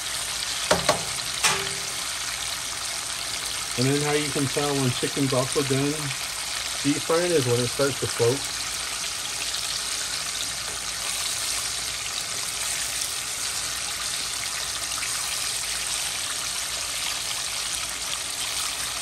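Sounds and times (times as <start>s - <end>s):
chicken deep-frying in oil: 0.0s - 19.0s.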